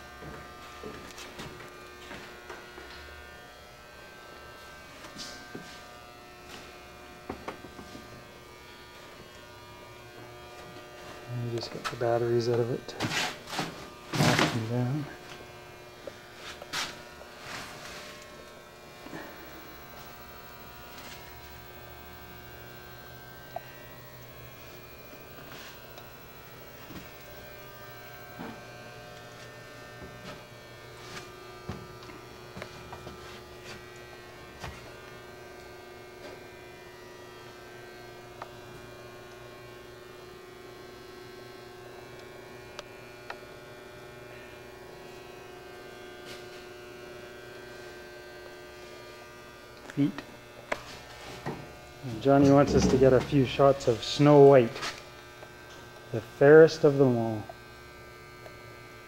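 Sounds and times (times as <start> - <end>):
steady electrical buzz: 0.0 - 59.0.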